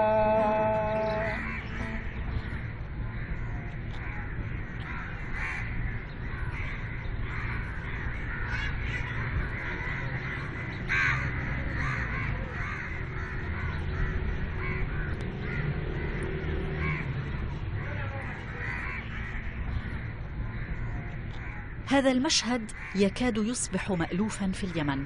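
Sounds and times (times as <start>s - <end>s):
birds calling: 0.0s - 21.8s.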